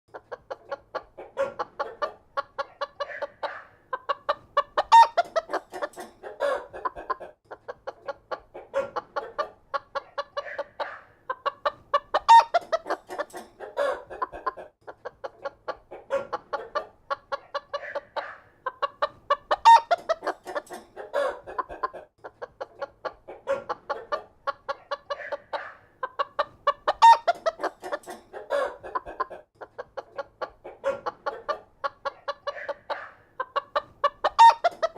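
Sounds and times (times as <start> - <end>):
chickens clucking: 0.1 - 34.9.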